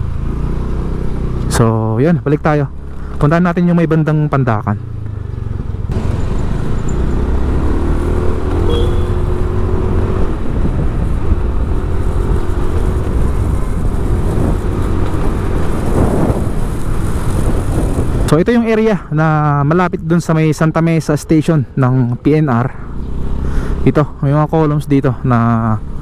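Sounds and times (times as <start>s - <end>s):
road noise: 0.0s - 26.0s
vehicle engine rumble: 0.0s - 26.0s.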